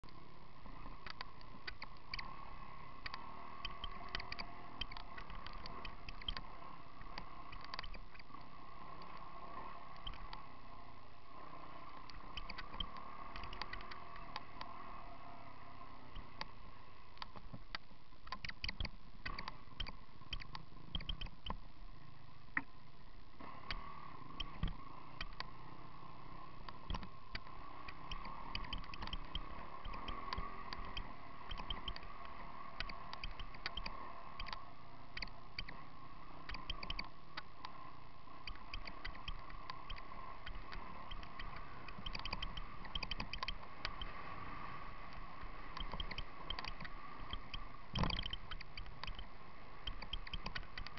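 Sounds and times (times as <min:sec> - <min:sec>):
motorbike engine muffled hum: 0:00.0 - 0:50.9.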